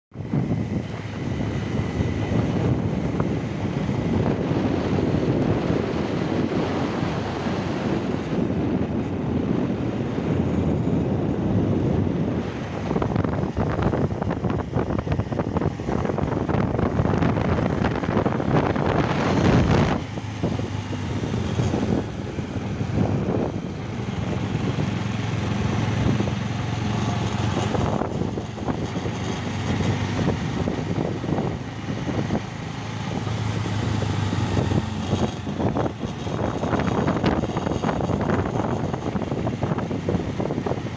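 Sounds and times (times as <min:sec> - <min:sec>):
motorcycle engine running: 0:00.1 - 0:40.9
wind rushing over microphone: 0:00.1 - 0:40.9.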